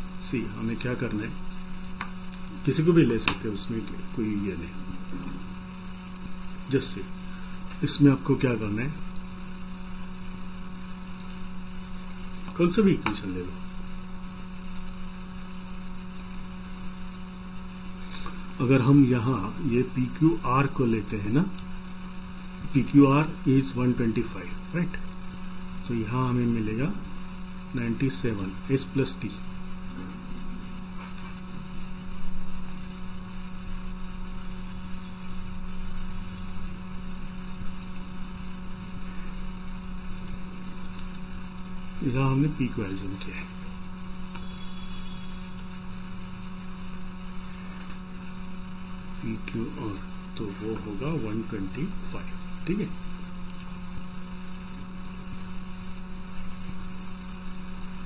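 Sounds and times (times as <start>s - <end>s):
electrical mains hum: 0.0s - 58.0s
light hiss: 0.0s - 58.0s.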